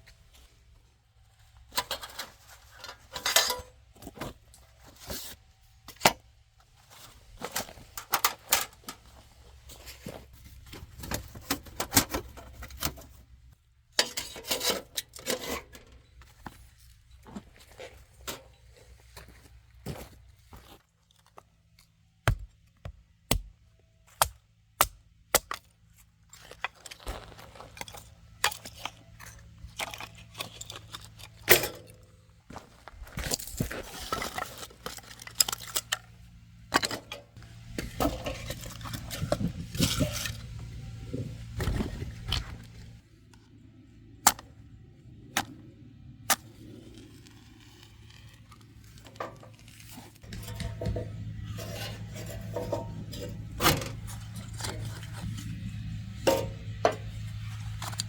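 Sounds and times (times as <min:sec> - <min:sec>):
rustling and scraping: 0:01.3 - 0:13.3, 0:14.0 - 0:21.4, 0:26.0 - 0:43.6, 0:46.5 - 0:58.0.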